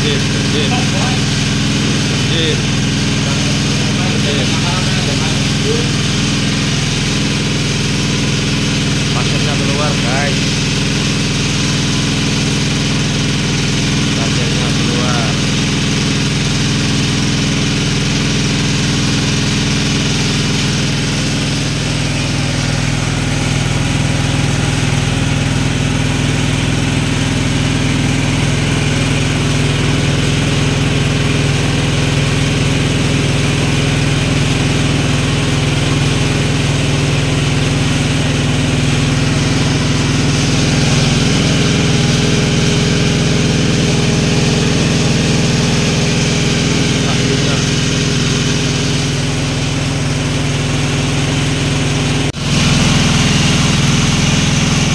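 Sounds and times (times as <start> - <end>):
water pump engine running: 0.0 - 54.9.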